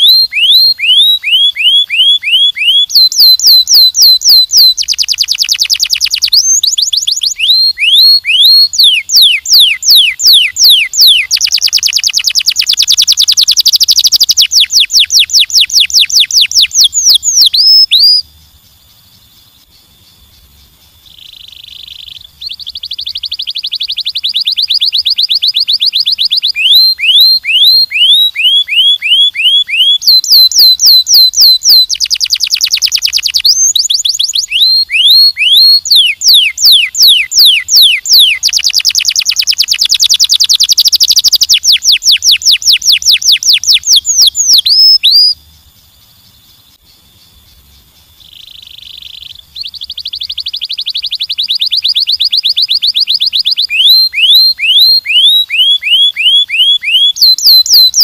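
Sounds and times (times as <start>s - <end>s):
canary singing: 0.0s - 18.3s, 21.0s - 45.4s, 48.2s - 58.0s.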